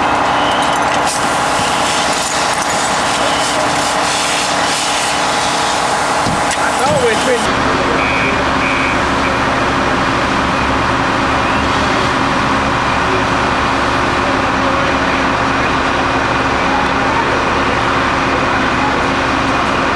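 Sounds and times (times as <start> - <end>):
vehicle engine idling: 0.0 - 19.9.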